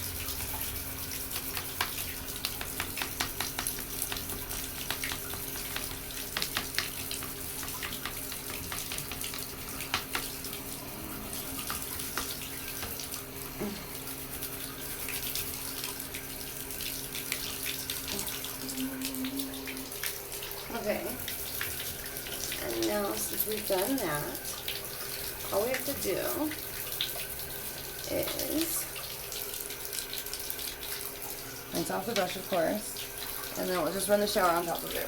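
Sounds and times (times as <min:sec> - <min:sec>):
toothbrush scrubbing fan blades: 0:00.0 - 0:35.0
water running into bathtub: 0:00.0 - 0:35.0.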